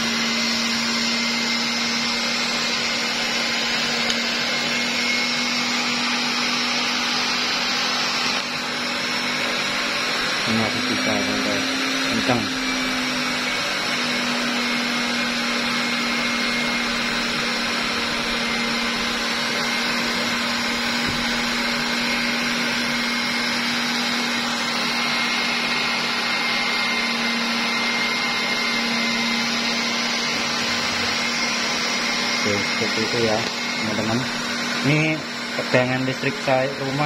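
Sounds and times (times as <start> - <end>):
pet dryer blower running: 0.0 - 37.0.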